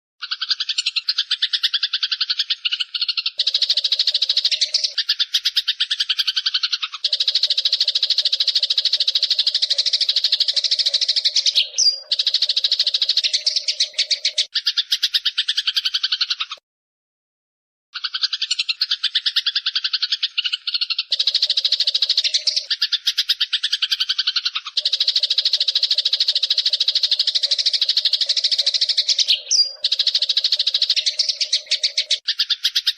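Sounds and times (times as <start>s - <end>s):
sparrow chattering: 0.2s - 16.6s, 18.0s - 32.9s.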